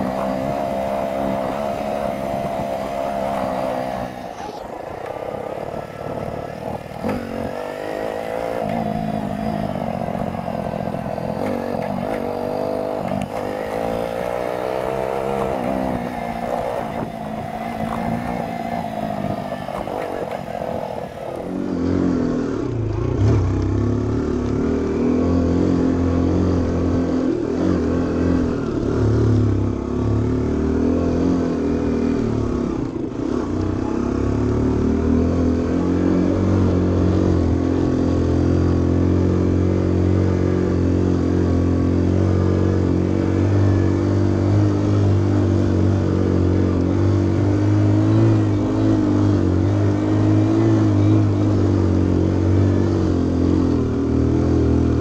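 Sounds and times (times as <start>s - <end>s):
motor scooter engine revving: 0.0s - 55.0s.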